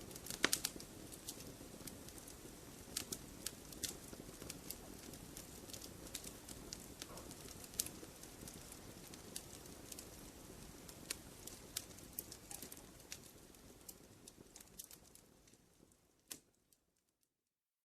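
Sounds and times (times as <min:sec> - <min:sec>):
low rumble of flame: 0:00.0 - 0:16.7
wood crackling and popping: 0:00.0 - 0:17.2.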